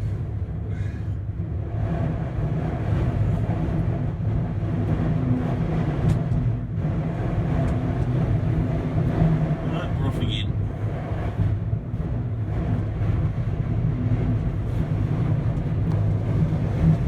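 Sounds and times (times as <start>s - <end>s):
strong wind buffeting: 0.0s - 17.0s.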